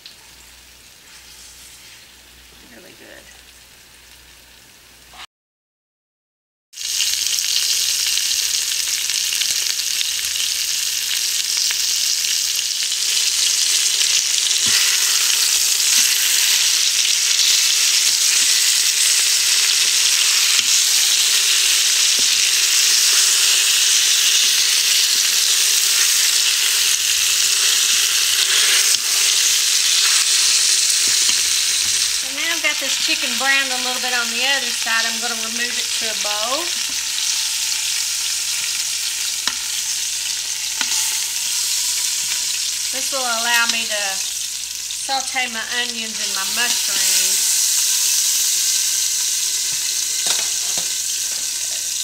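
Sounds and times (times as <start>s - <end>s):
chicken sizzling in hot oil: 0.0s - 5.1s, 6.7s - 52.0s.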